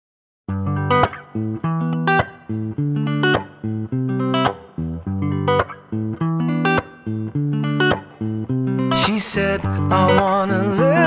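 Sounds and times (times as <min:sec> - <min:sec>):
plucked guitar and bass riff: 0:00.5 - 0:11.0.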